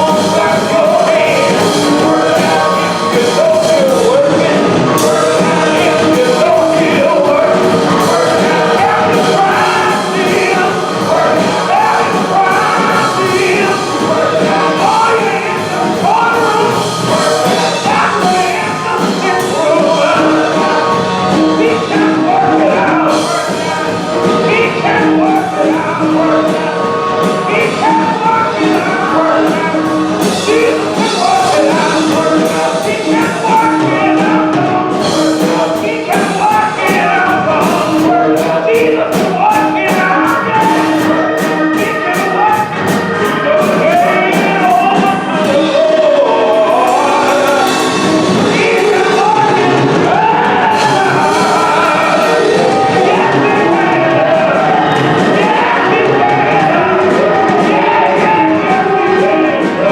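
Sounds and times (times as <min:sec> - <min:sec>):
choir singing gospel: 0:00.0 - 0:59.9
instrumental accompaniment with beat: 0:00.0 - 0:59.9.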